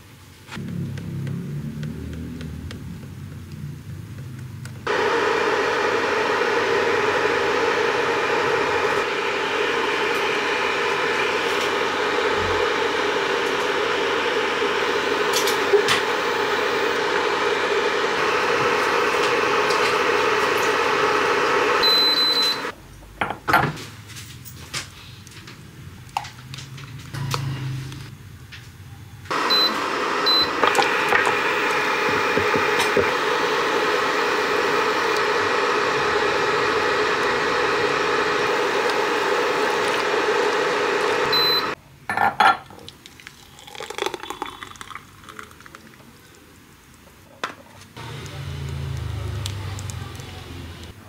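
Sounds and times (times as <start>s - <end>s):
cooktop fan whir: 0.0s - 51.0s.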